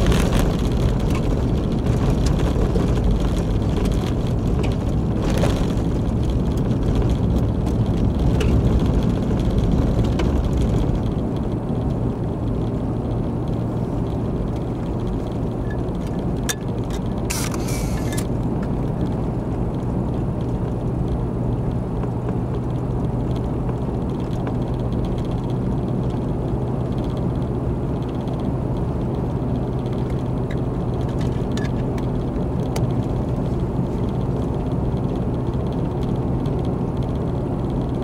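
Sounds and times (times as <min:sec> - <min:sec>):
car interior road noise: 0:00.0 - 0:38.0.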